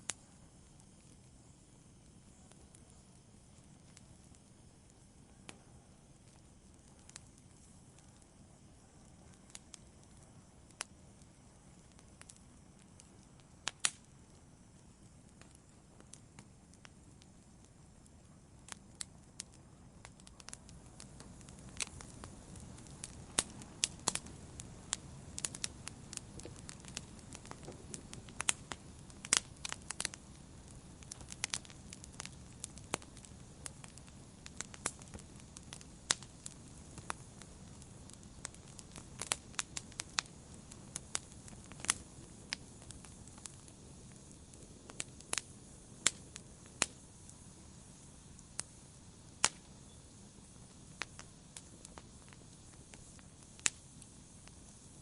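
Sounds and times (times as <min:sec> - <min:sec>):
campfire flame rushing: 0:00.0 - 0:55.0
wood crackling and popping: 0:00.0 - 0:55.0.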